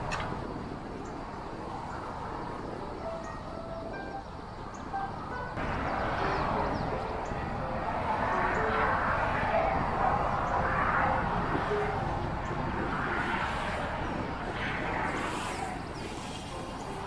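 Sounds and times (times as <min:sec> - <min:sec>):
street traffic: 0:00.0 - 0:17.0
wind rumbling on microphone: 0:00.0 - 0:17.0.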